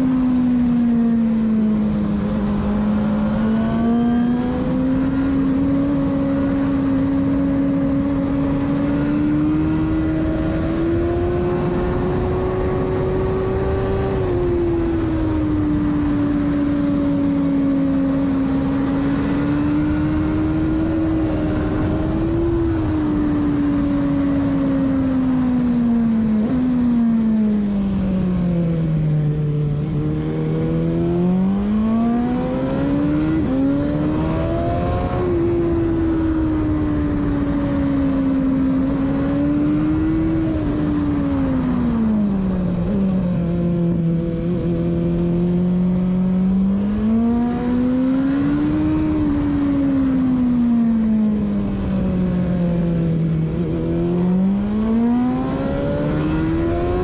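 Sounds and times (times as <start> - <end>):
motorcycle engine revving: 0.0 - 57.0
wind and tyre rush: 0.0 - 57.0.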